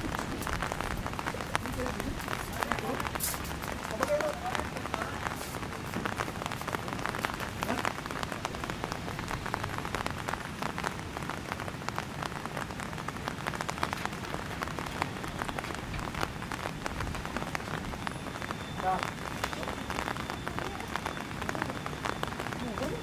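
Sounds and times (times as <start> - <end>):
steady rain on hard surfaces: 0.0 - 23.0.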